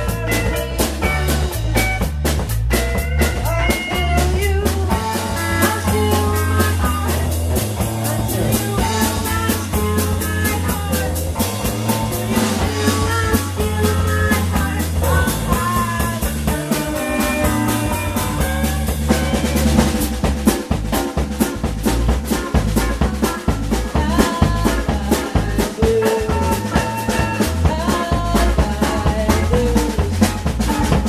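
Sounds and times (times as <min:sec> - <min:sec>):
bass line: 0:00.0 - 0:31.0
drum kit beat: 0:00.0 - 0:31.0
electric guitar: 0:00.0 - 0:31.0.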